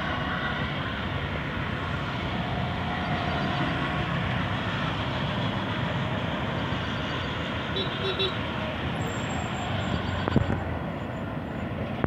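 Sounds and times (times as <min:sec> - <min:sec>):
urban background rumble: 0:00.0 - 0:12.0.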